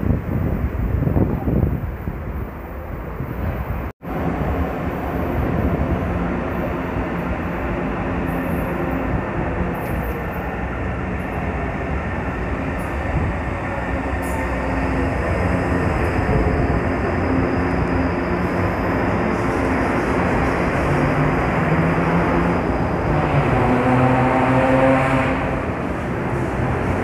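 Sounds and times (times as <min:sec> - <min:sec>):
metro train rumbling past: 0:00.0 - 0:27.0.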